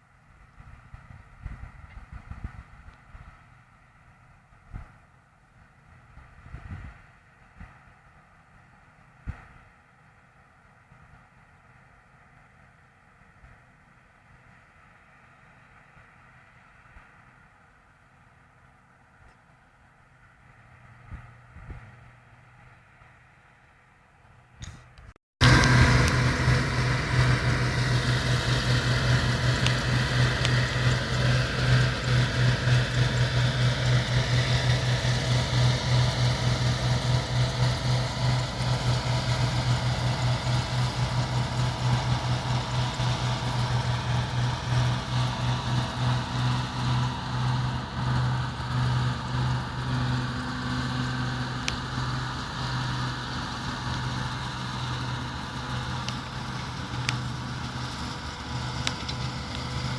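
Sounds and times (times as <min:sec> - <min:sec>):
combine harvester engine droning: 0:00.0 - 0:59.9.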